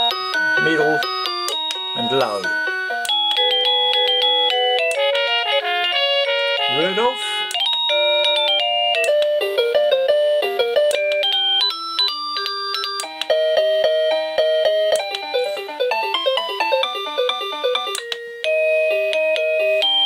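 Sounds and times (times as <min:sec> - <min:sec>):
electronic doorbell melody: 0:00.0 - 0:20.0.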